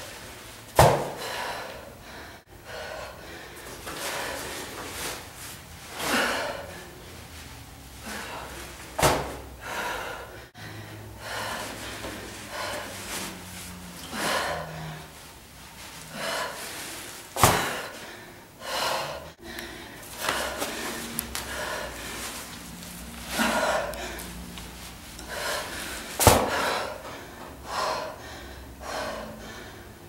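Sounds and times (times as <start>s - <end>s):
woman breathing hard and gasping: 1.1s - 5.2s, 5.9s - 7.2s, 8.0s - 30.0s.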